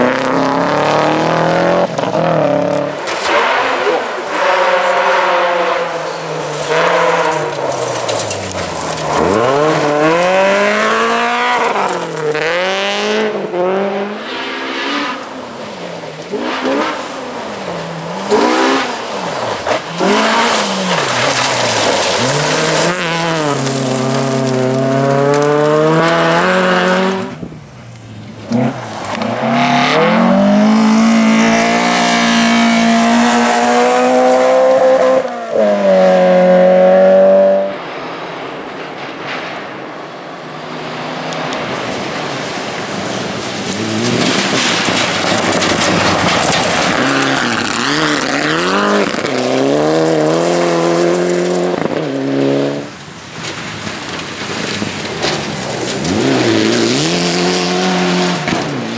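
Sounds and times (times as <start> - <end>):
rally car engine revving: 0.0 - 38.4, 40.5 - 58.9.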